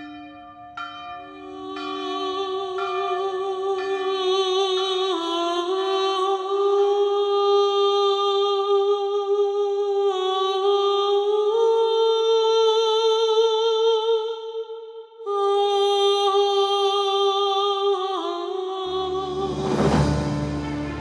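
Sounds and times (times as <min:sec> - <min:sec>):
wordless voice singing: 0:01.2 - 0:21.0.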